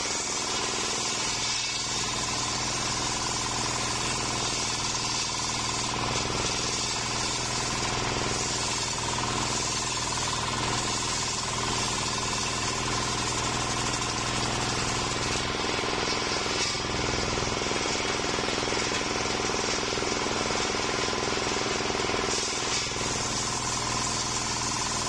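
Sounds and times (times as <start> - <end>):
circular saw blade cutting log: 0.0 - 25.0
stationary engine running: 0.0 - 25.0.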